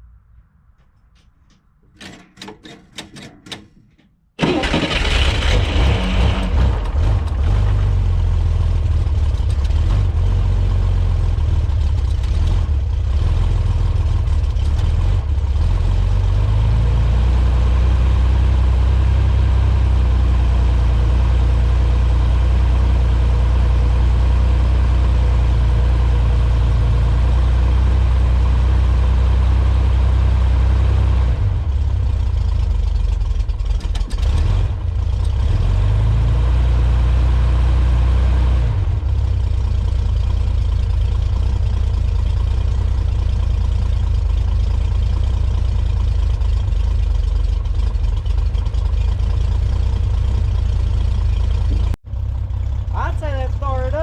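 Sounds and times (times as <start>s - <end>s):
car engine starting and idling: 0.0s - 54.0s.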